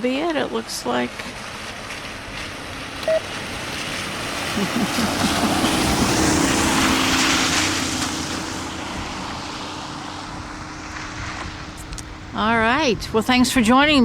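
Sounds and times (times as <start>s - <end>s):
vehicle passing by: 0.2s - 13.4s.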